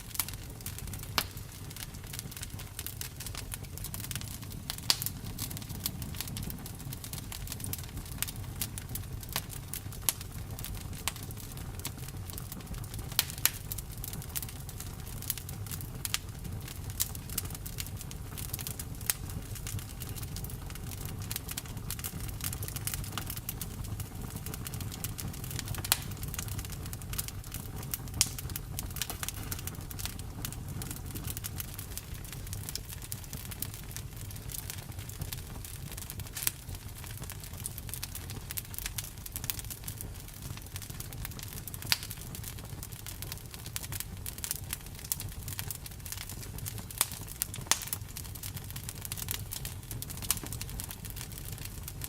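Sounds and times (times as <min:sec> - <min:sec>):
campfire crackling and popping: 0:00.0 - 0:52.0
low fire rumble: 0:00.0 - 0:52.0.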